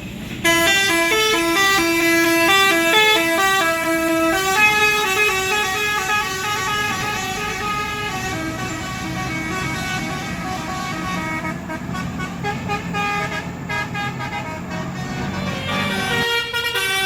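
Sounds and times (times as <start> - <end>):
musical air horn playing a tune: 0.4 - 17.0.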